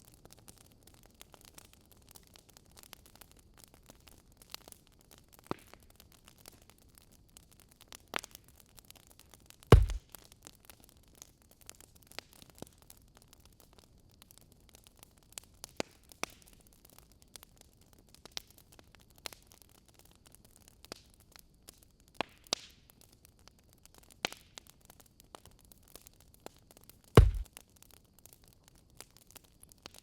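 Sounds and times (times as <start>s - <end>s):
wood fire crackling: 0.1s - 30.0s.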